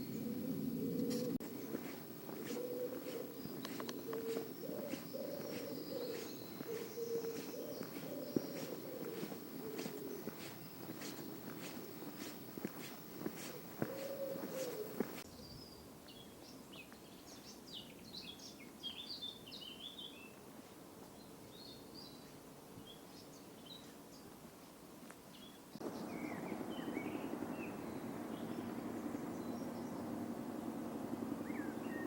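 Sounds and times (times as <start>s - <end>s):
small songbirds chirping: 0.0s - 20.4s, 21.1s - 24.4s, 25.2s - 32.0s.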